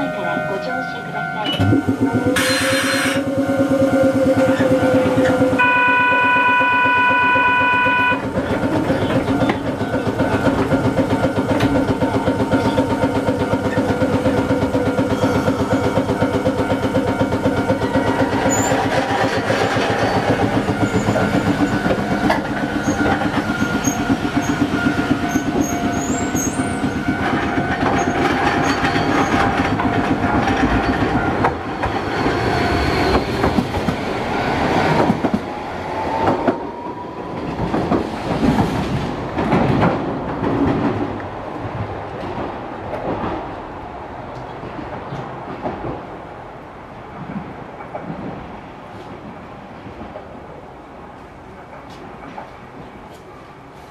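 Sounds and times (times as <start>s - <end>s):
tram wheels clattering on rails: 0.0s - 53.9s.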